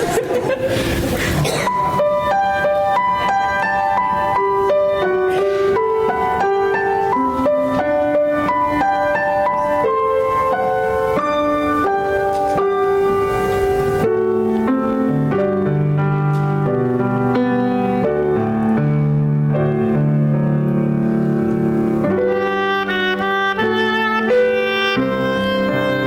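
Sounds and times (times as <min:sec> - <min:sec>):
piano playing hymn-like chords: 0:00.0 - 0:26.0.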